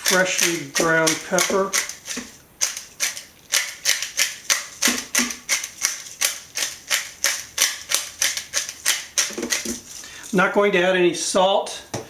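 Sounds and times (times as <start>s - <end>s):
pepper mill grinding clicks: 0.0s - 9.8s.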